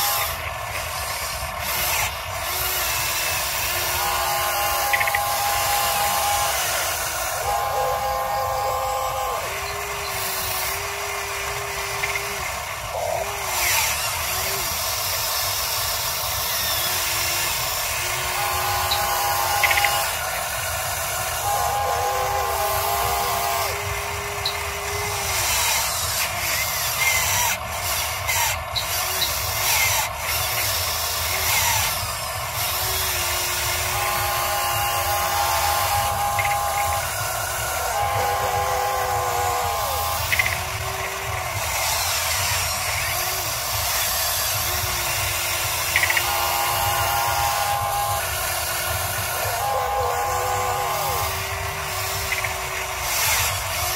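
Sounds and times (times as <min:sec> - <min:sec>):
electric motors whining: 0:00.0 - 0:53.9.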